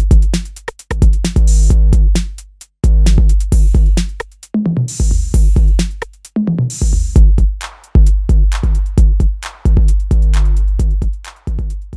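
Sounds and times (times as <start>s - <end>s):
electronic music with drum-machine beat: 0.0s - 11.9s.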